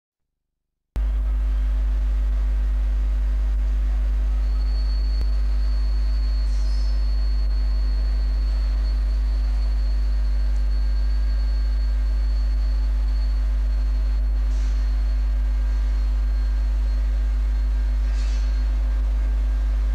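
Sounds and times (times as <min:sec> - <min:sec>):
grinding machine humming: 0:01.0 - 0:19.9
thin high whine: 0:01.0 - 0:19.9.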